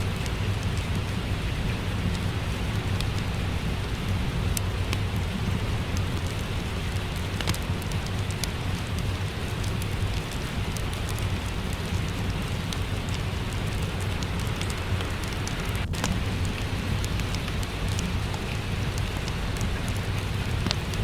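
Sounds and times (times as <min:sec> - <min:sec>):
fireplace crackling: 0:00.0 - 0:21.0
steady rain falling: 0:00.0 - 0:21.0.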